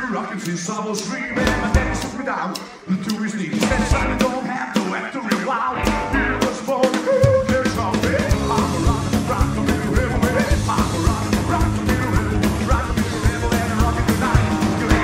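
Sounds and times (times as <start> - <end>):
rockabilly band playing: 0.0 - 15.0.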